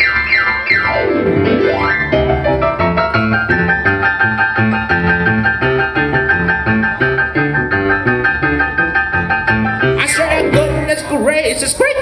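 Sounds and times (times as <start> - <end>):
rock and roll piano: 0.0 - 12.0.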